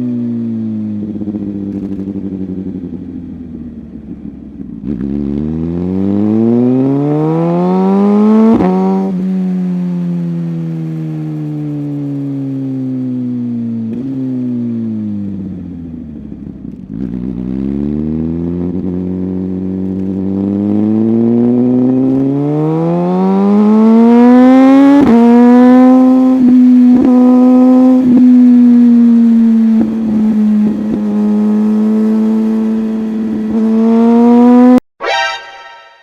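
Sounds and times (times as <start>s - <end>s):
motorcycle engine revving: 0.0s - 13.1s, 13.7s - 34.8s.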